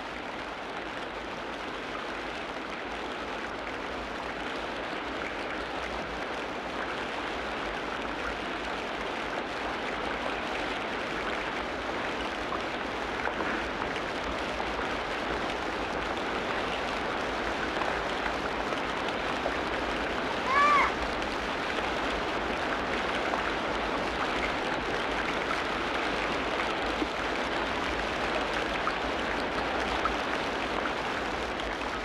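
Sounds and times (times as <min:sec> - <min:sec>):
rain falling on foliage: 0:00.0 - 0:32.0.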